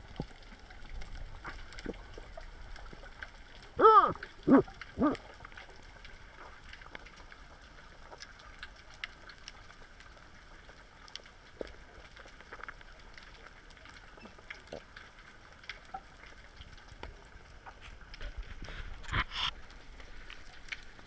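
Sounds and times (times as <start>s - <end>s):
small clicks and crackles: 0.0s - 21.0s.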